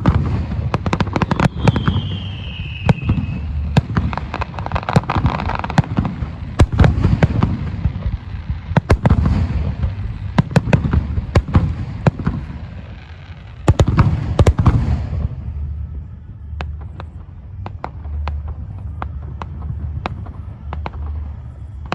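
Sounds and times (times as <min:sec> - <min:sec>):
continuous rumble: 0:00.0 - 0:21.9.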